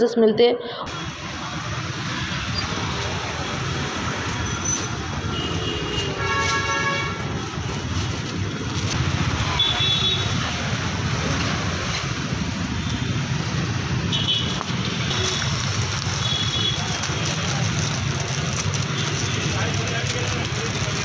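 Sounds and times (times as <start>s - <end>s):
motor scooters passing: 0.9s - 21.0s.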